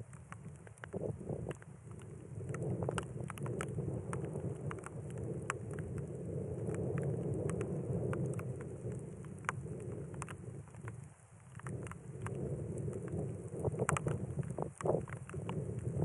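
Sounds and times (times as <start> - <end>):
raindrops ticking: 0.0 - 16.0
wind buffeting microphone: 0.0 - 16.0.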